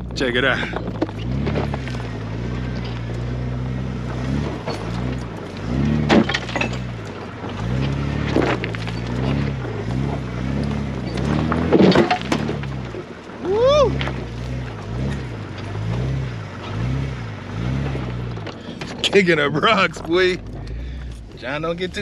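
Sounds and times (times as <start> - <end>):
car engine crawling over rocks: 0.0 - 22.0.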